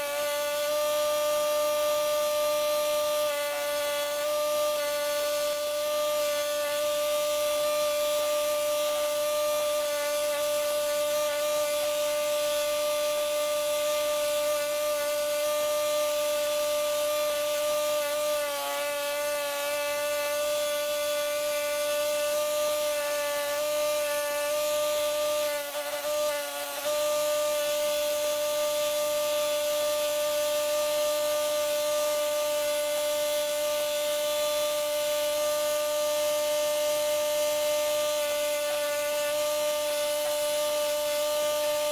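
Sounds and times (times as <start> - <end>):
power tool whining: 0.0 - 41.9.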